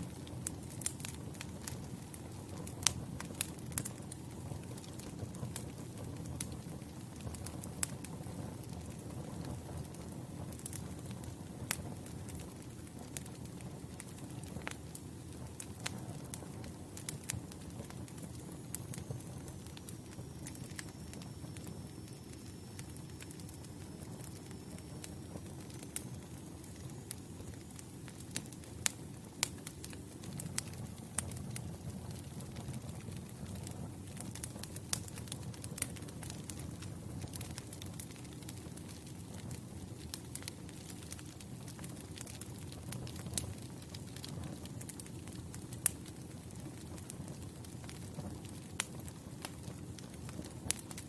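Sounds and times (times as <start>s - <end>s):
campfire burning: 0.0s - 51.0s
fire crackles and pops: 0.0s - 51.0s.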